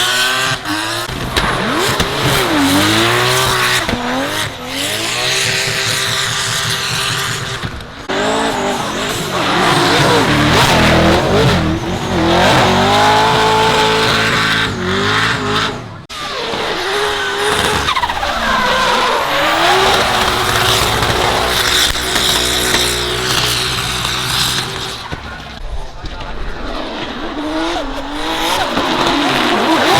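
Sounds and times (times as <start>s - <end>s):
tyres skidding on wet track: 0.0s - 25.6s, 26.6s - 29.9s
car engines revving: 0.0s - 29.9s.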